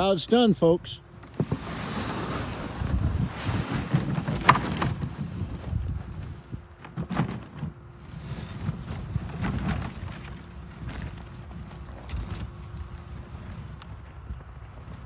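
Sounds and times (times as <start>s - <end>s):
wind buffeting microphone: 1.4s - 6.9s, 8.2s - 15.0s.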